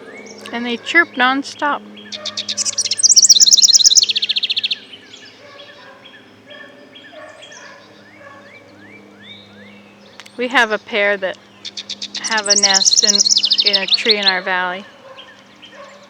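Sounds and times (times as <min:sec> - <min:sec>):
distant bird chirps: 0:00.0 - 0:16.0
wren singing rapid trill: 0:00.0 - 0:16.0.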